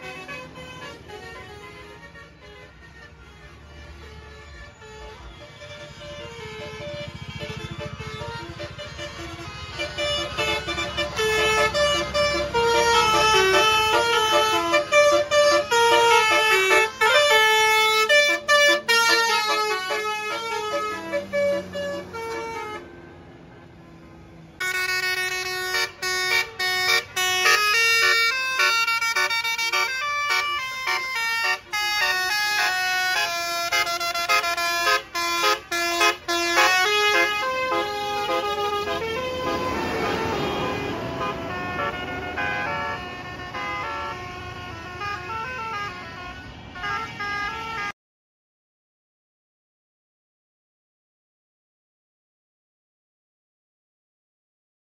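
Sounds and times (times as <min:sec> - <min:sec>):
bus horns playing tune: 0:00.0 - 0:48.0.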